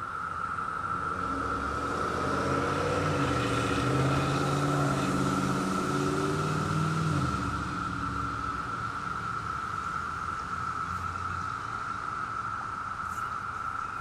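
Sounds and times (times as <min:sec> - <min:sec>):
cicadas droning: 0:00.0 - 0:14.0
car engine passing: 0:00.3 - 0:12.6.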